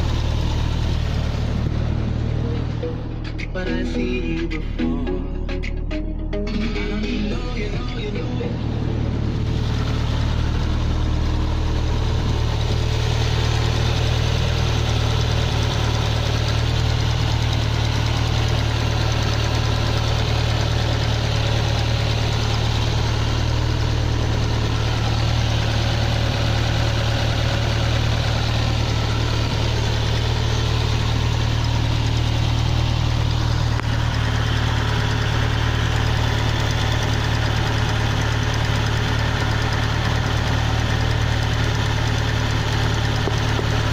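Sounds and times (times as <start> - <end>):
abnormal engine noise: 0.0 - 43.9
car engine idling: 0.0 - 43.9.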